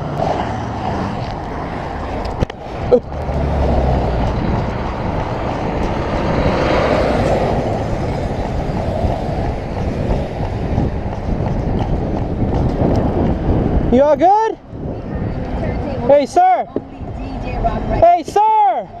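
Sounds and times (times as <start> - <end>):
vehicle engine rumble: 0.0 - 18.0
road noise: 0.0 - 19.0.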